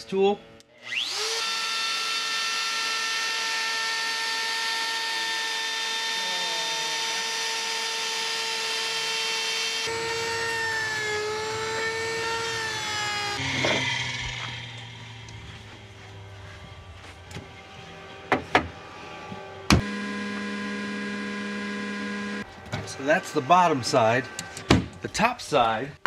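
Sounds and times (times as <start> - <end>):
table router cutting wood: 0.8 - 15.8, 17.8 - 25.1
cnc router spindle whining: 0.8 - 25.0.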